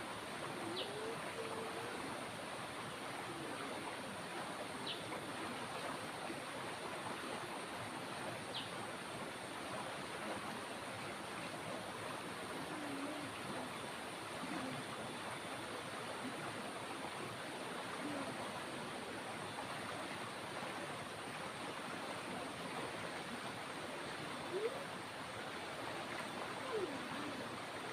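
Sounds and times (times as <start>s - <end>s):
flowing water rushing: 0.0s - 27.9s.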